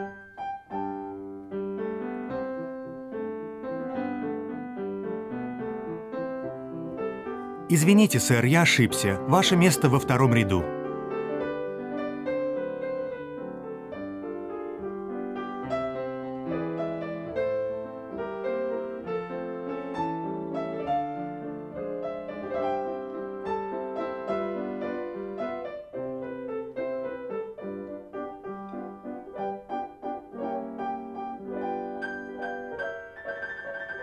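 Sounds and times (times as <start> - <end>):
piano playing brisk tune: 0.0 - 34.0.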